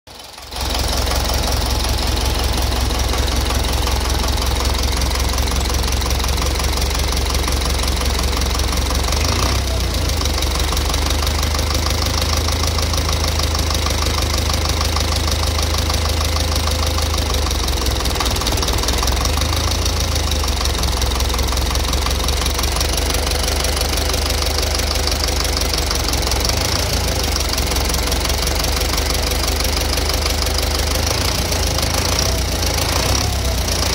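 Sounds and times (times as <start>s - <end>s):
engine idling with rapid knock: 0.1s - 33.9s.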